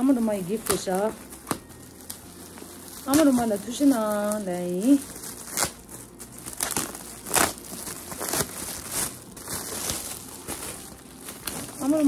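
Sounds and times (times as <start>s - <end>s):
gift wrapping paper crinkling: 0.0s - 12.0s.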